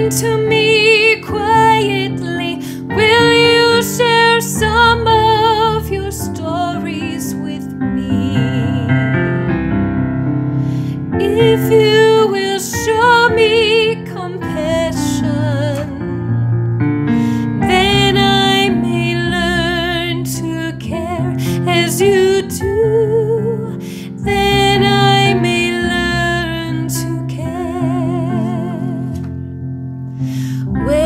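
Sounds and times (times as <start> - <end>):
woman singing a hymn: 0.0 - 9.2, 11.2 - 16.3, 17.6 - 29.3, 30.6 - 31.0
piano accompaniment: 0.0 - 31.0.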